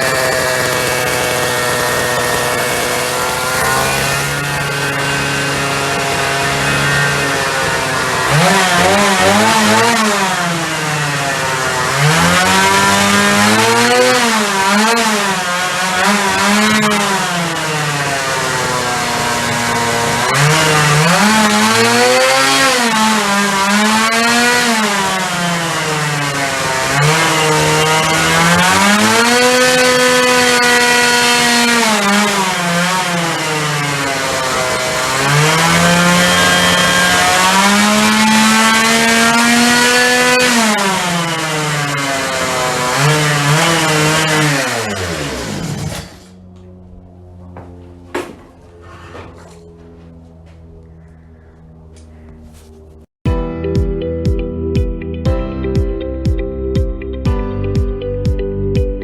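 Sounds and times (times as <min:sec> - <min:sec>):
motorcycle engine revving: 0:00.0 - 0:53.1.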